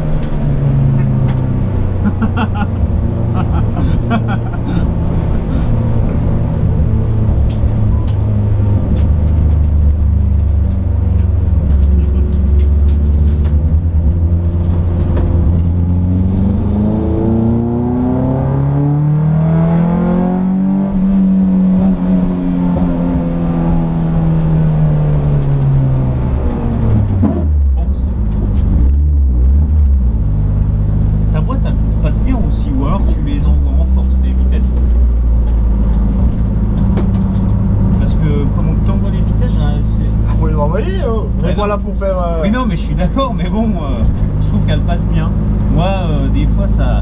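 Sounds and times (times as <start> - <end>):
car engine droning from inside cabin: 0.0 - 18.8, 20.0 - 47.0.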